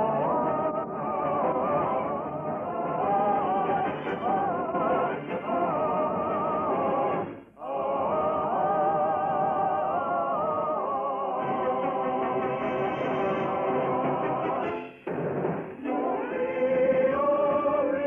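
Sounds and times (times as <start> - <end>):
operatic singing with vibrato: 0.0 - 15.0, 15.7 - 18.0.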